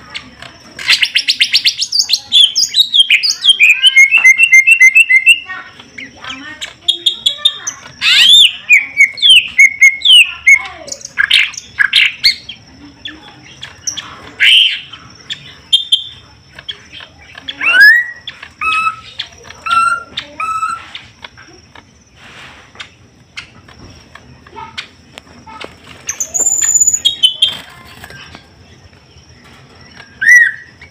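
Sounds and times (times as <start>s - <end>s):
birds chirping and whistling: 0.0s - 30.9s.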